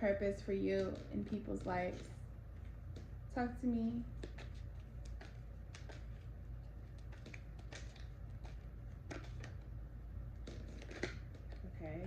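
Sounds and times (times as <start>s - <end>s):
low steady hum: 0.0s - 12.0s
cards shuffled by hand: 0.5s - 3.1s, 4.1s - 12.0s.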